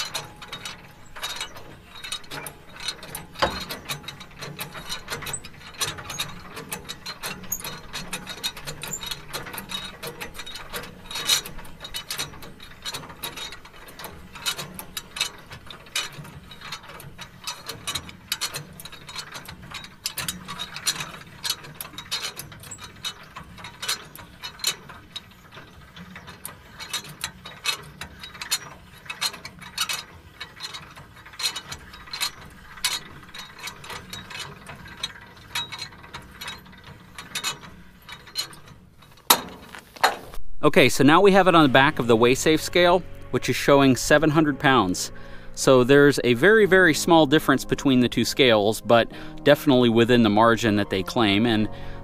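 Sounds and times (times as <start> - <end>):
jack gears clicking: 0.0 - 52.0.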